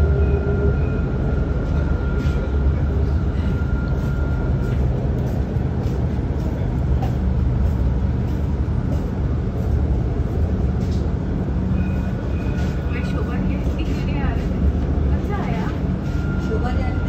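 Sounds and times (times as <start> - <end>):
tram rumble and hum: 0.0 - 17.0.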